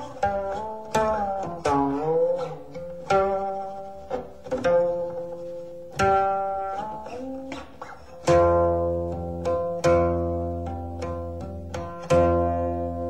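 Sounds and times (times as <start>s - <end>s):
plucked string instrument notes: 0.0s - 13.0s.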